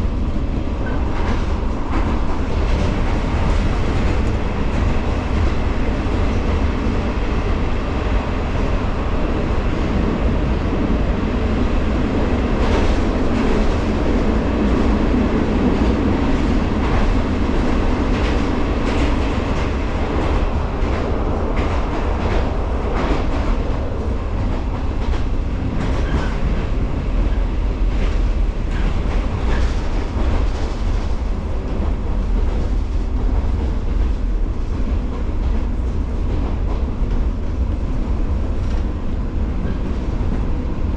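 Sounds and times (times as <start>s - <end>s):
train wheels rumbling: 0.0s - 40.9s.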